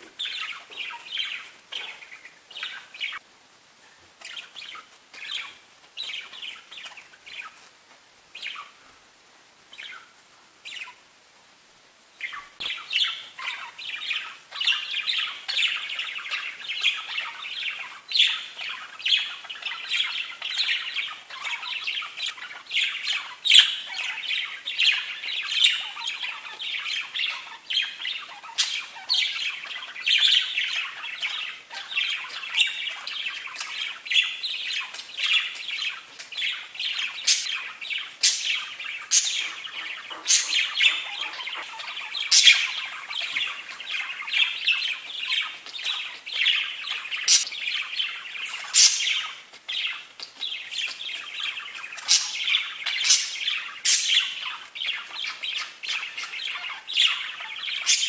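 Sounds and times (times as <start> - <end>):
budgerigars chattering: 0.0 - 3.2, 4.2 - 7.6, 9.7 - 11.0, 12.2 - 58.0.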